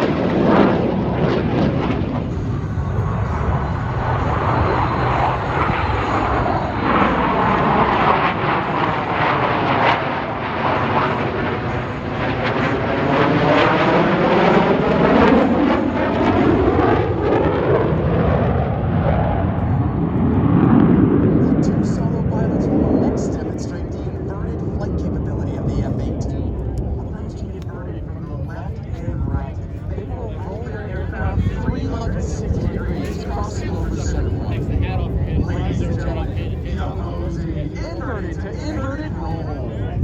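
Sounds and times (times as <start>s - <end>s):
jet roar flying past: 0.0s - 40.0s.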